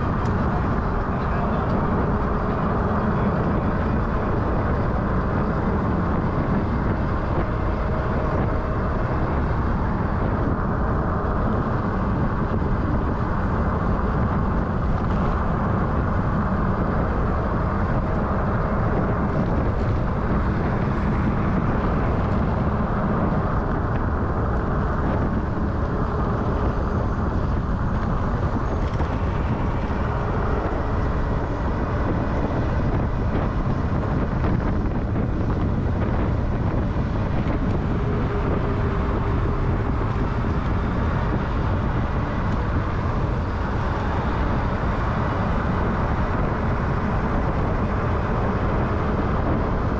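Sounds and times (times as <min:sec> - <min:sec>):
road noise: 0:00.0 - 0:49.9
wind rush: 0:00.0 - 0:49.9.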